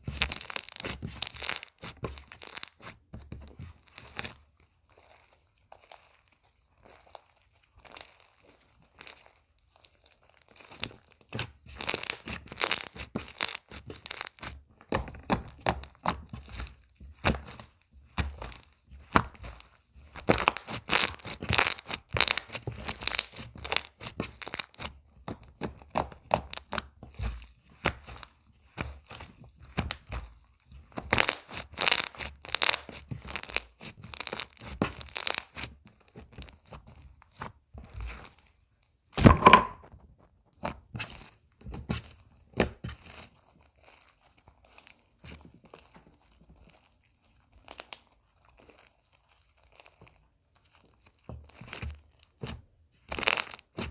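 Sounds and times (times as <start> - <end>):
slime crackling and popping: 0.0 - 4.4, 5.0 - 38.4, 40.6 - 50.1, 50.7 - 53.9.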